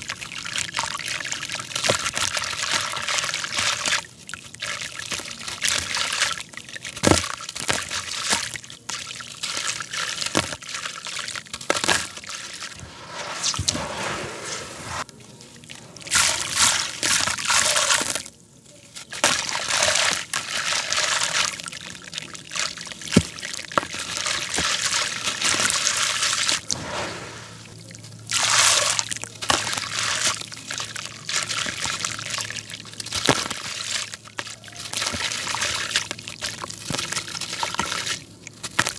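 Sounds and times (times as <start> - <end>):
wet grit crunching and crackling: 5.1 - 38.9.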